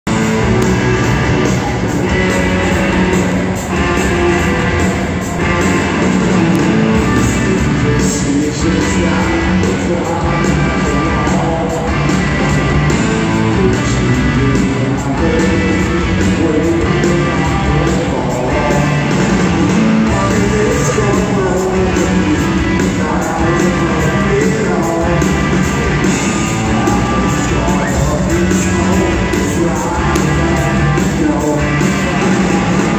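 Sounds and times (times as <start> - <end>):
live rock band: 0.0 - 32.9
person singing: 0.0 - 32.9.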